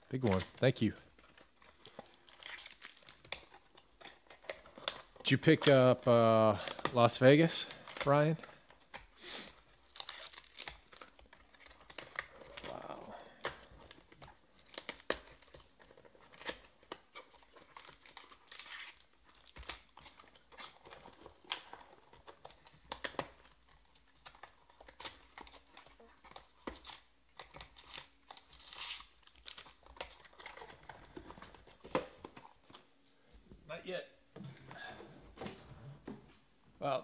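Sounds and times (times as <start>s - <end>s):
packaging rustling and crinkling: 0.0s - 5.8s, 6.6s - 32.9s.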